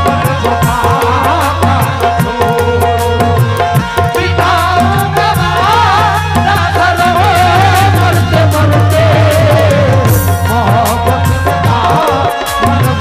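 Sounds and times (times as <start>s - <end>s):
hand-drum strokes: 0.0s - 13.0s
ornamented melody line: 0.0s - 13.0s.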